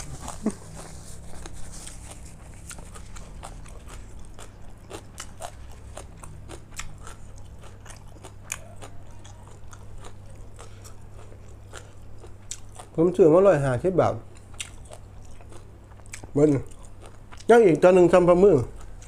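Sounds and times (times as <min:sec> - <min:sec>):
chewing and crunching food: 0:00.0 - 0:19.0.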